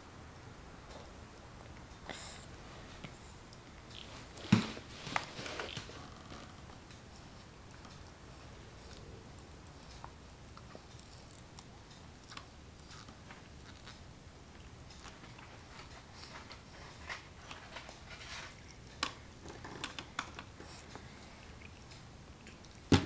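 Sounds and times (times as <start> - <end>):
baby gnawing and sucking: 0.8 - 22.9.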